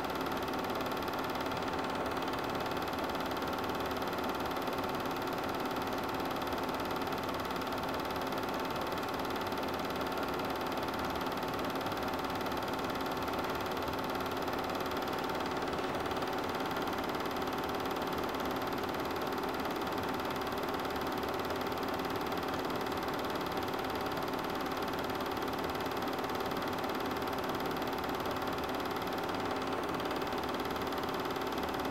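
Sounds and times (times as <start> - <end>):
film projector whirring: 0.0 - 31.9.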